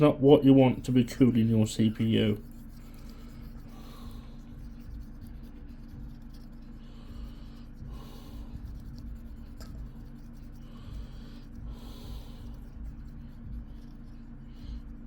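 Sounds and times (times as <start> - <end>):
low electrical hum: 0.0 - 15.0
scrubbing and rubbing: 0.0 - 15.0.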